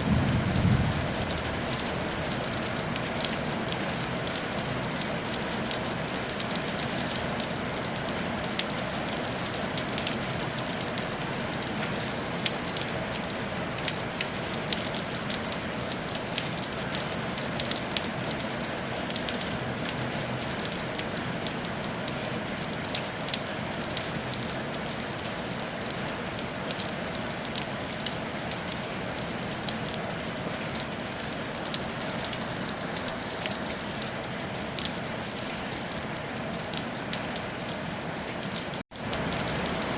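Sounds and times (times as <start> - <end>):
rain on a tile roof: 0.0 - 39.9.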